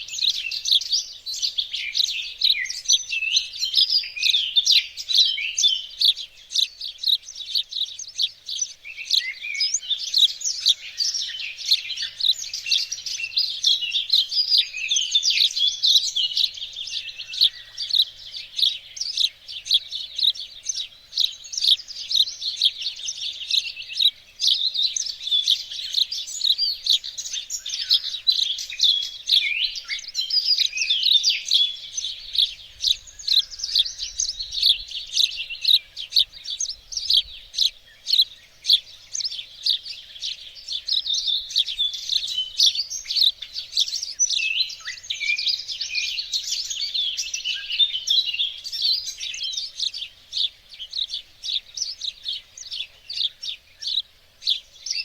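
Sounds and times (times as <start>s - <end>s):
songbirds chorus: 0.0s - 55.0s.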